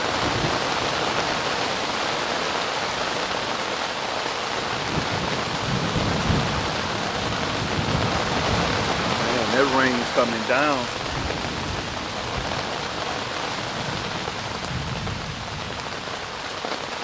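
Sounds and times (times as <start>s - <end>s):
heavy rain on a tent: 0.0s - 17.0s.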